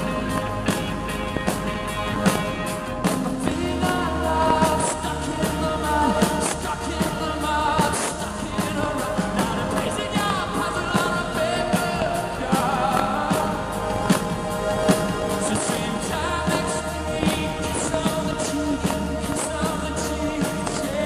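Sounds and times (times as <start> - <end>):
drum hits: 0.0 - 21.0
electric guitar: 0.0 - 21.0
man singing lead vocal: 0.0 - 21.0.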